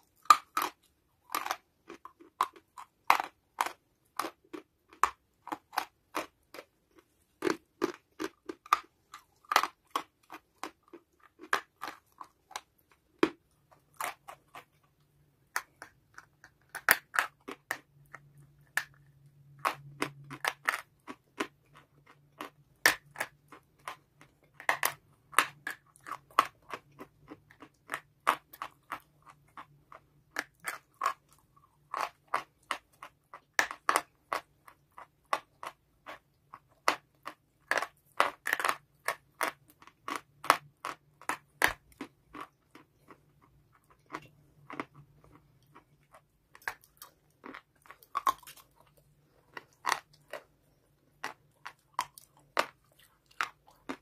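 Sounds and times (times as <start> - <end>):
chewing crunchy clay: 0.0 - 54.0.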